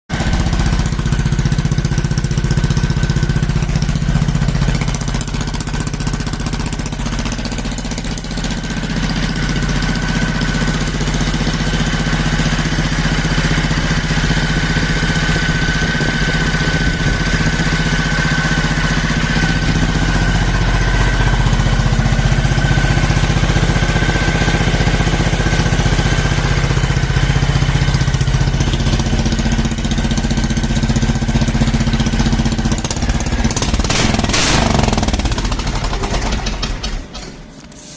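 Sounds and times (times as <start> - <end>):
snowmobile engine idling: 0.1 - 37.2.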